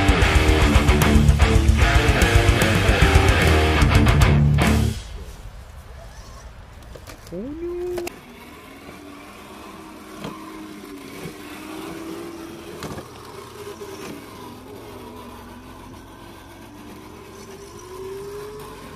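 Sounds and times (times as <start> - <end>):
electric motor and drivetrain whining: 0.0 - 5.2, 5.9 - 18.9.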